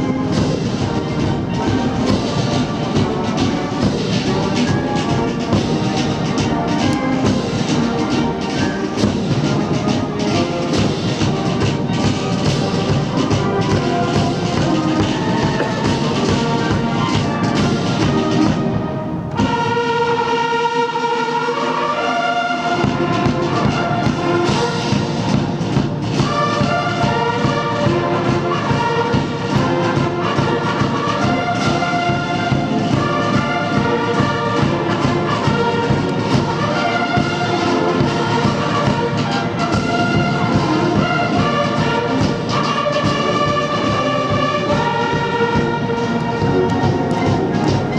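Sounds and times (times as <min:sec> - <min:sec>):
military band playing: 0:00.0 - 0:47.9.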